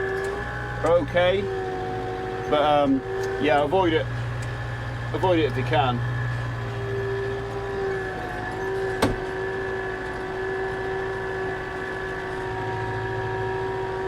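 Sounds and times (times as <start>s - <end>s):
tractor engine whining: 0.0s - 14.0s.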